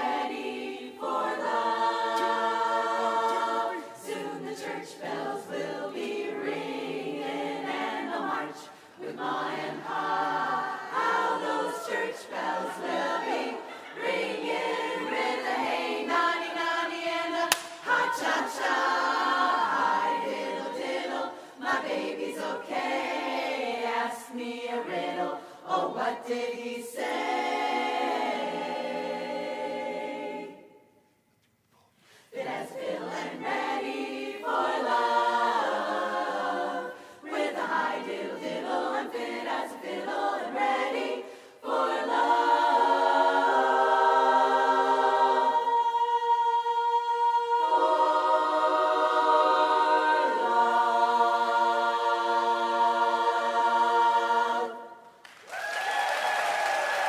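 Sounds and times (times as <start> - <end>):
women's chorus singing a cappella: 0.0 - 31.2, 31.8 - 55.2.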